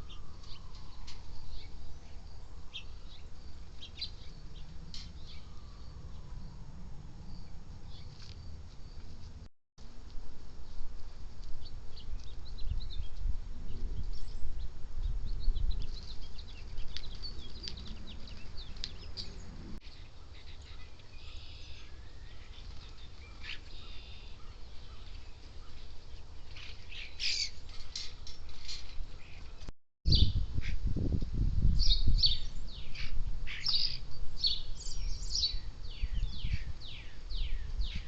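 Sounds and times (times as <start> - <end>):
birds chirping: 0.0 - 6.6, 11.6 - 30.4, 31.8 - 38.0.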